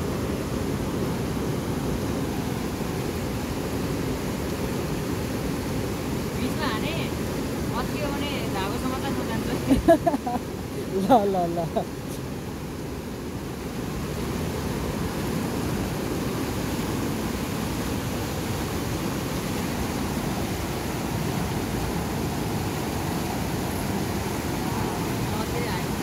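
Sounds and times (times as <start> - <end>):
stream rapids roaring: 0.0 - 26.0.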